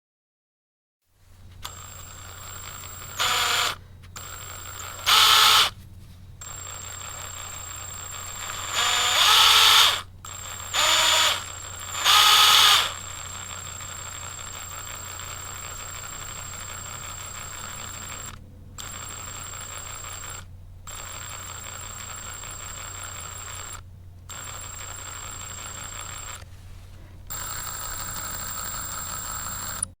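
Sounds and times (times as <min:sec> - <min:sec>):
power drill running: 0:01.4 - 0:05.8, 0:06.4 - 0:26.5, 0:27.2 - 0:30.0.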